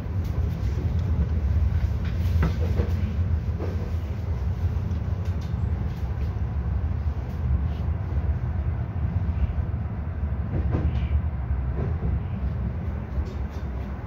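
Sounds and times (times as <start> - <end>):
train rumble from inside: 0.0 - 14.0.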